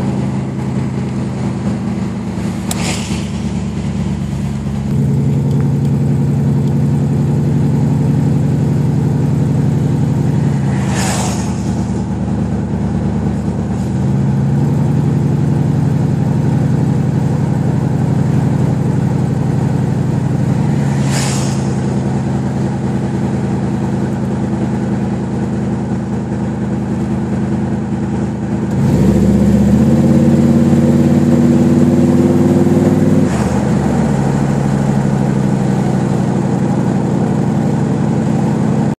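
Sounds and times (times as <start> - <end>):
car engine: 0.0 - 38.9
road noise inside car: 0.0 - 38.9.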